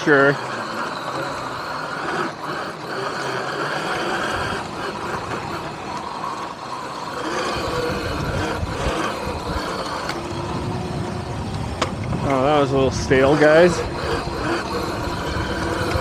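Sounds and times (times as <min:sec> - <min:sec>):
electric motor whine: 0:00.0 - 0:16.0
rushing wind: 0:00.0 - 0:16.0
tyre noise: 0:00.0 - 0:16.0.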